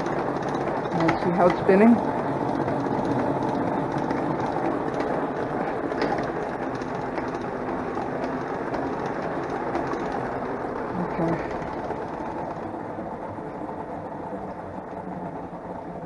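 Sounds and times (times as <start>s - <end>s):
washing machine spinning whir: 0.0s - 16.0s.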